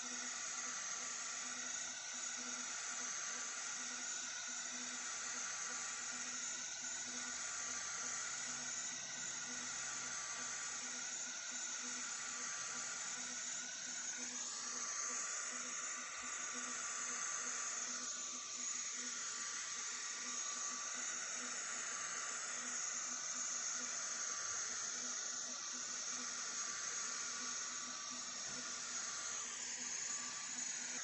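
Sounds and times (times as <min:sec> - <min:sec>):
laser fan airy hiss: 0:00.0 - 0:31.0
stepper motors whining: 0:00.0 - 0:31.0.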